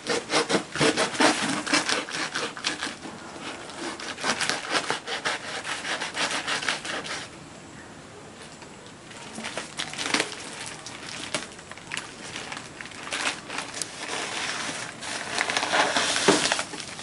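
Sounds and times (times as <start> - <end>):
plastic wrap crinkling: 0.0 - 7.3, 9.1 - 17.0.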